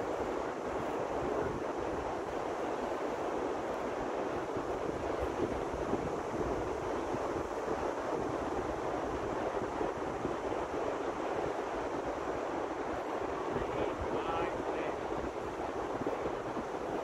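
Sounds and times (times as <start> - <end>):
surf: 0.0 - 17.0
wind buffeting microphone: 0.0 - 17.0.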